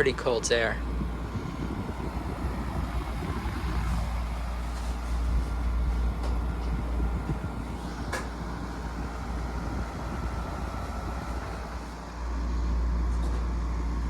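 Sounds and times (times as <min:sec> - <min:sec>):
window air conditioner running: 0:00.0 - 0:14.0.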